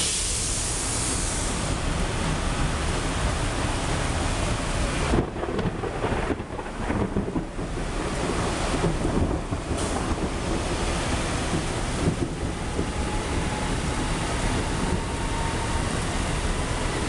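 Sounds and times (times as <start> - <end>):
heavy rain: 0.0 - 17.0
train rolling past: 0.0 - 17.0
wind buffeting microphone: 0.4 - 17.0.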